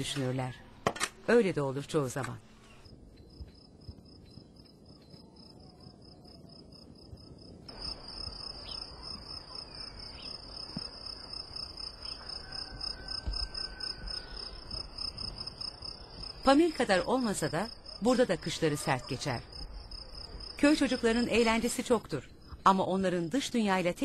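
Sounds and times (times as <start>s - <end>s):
crickets chirping: 2.6s - 23.9s.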